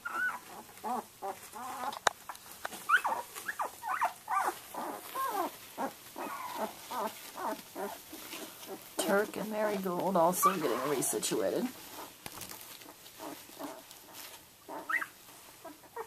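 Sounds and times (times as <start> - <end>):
puppies whimpering and squeaking: 0.0 - 16.0.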